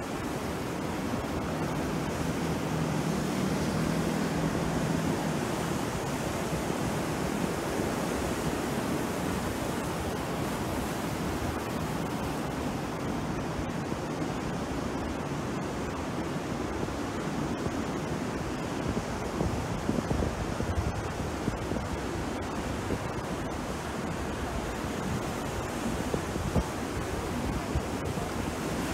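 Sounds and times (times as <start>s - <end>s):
sea surf breaking: 0.0s - 28.9s.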